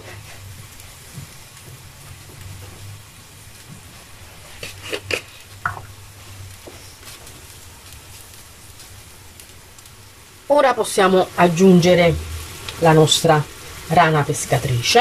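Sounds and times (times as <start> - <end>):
sauce sizzling in a pan: 0.0 - 15.0.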